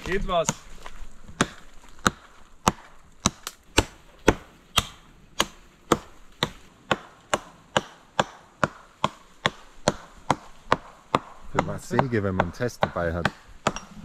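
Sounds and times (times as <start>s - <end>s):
axe chopping wood: 1.4s - 13.9s.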